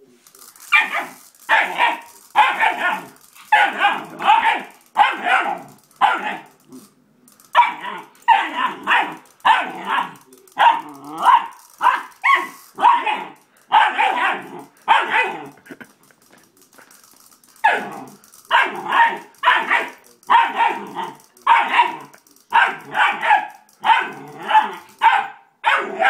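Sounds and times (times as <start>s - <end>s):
puppy barking: 0.7s - 6.5s, 7.6s - 15.5s, 17.6s - 26.0s.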